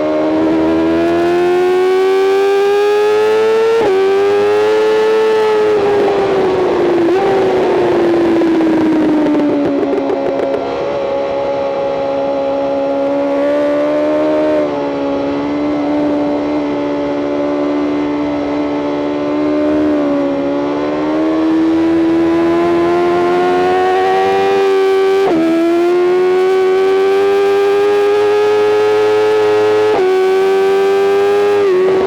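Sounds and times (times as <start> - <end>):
motorcycle engine at high revs: 0.0 - 32.0.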